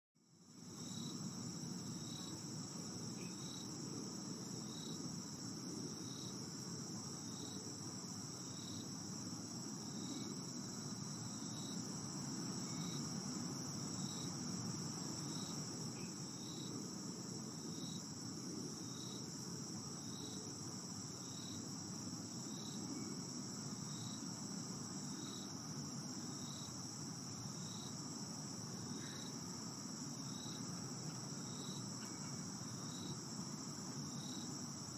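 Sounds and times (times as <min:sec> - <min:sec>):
lower insect chirp: 0:00.2 - 0:34.9
insects trilling: 0:00.4 - 0:34.9.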